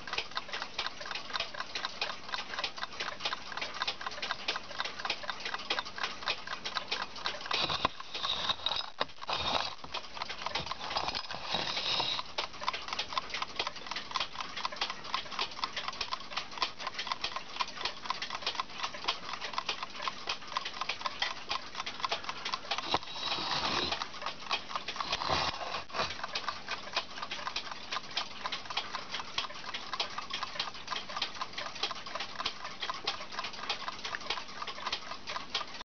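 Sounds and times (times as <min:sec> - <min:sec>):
clockwork timer ticking: 0:00.0 - 0:35.8.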